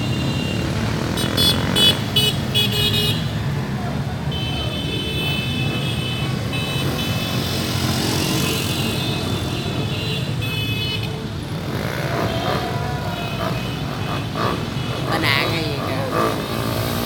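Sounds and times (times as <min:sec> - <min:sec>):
motorbikes in street traffic: 0:00.0 - 0:17.0.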